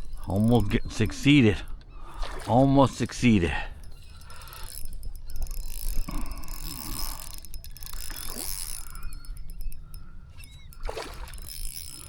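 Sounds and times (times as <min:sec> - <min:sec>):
fishing gear clicking and rattling: 0:00.0 - 0:12.0.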